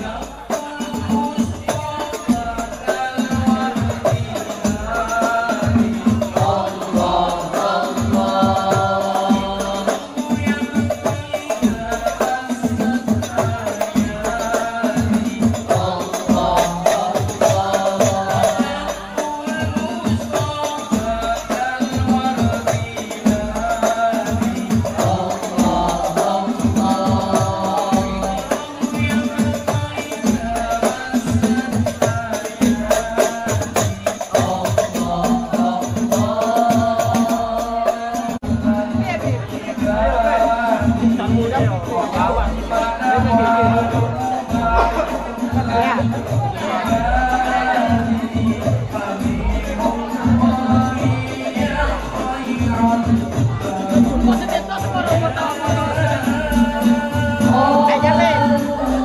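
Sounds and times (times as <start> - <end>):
frame drums beating: 0.0 - 59.0
men singing devotional song: 0.0 - 59.0.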